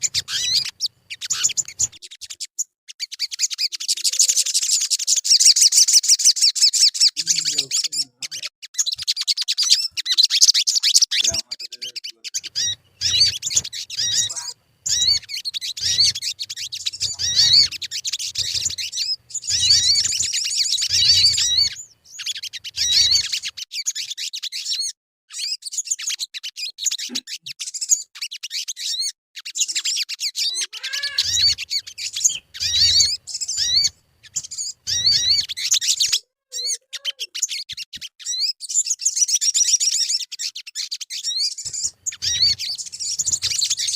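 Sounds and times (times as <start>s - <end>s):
bird twittering and chirping: 0.0s - 43.9s.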